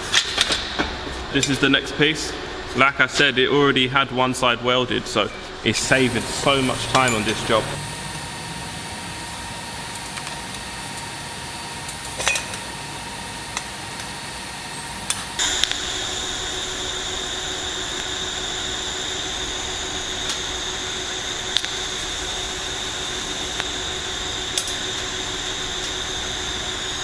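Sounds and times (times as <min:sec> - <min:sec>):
steady hiss with hum: 0:00.4 - 0:12.1, 0:13.2 - 0:27.0.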